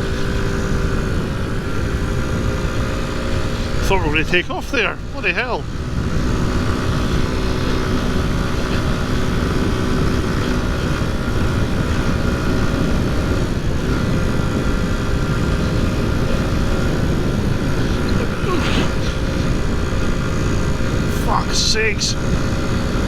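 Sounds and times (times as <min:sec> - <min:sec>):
motorbike engine running: 0:00.0 - 0:23.0
wind rushing over microphone: 0:00.0 - 0:23.0.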